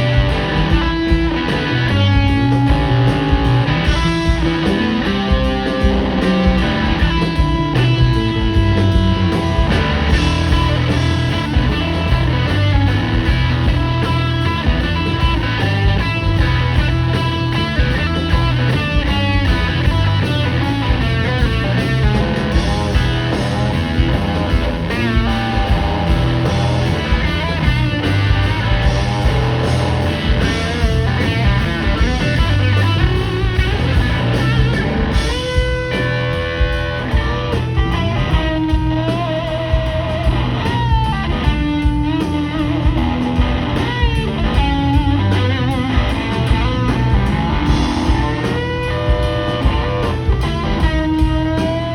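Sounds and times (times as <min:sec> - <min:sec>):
blues-rock band playing: 0:00.0 - 0:51.9
electric guitar lead lines: 0:00.0 - 0:51.9.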